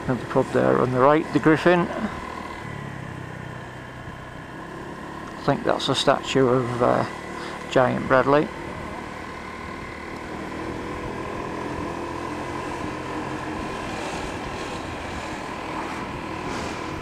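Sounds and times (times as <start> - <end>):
road and wind noise: 0.0 - 17.0
scooter engine droning: 0.0 - 17.0.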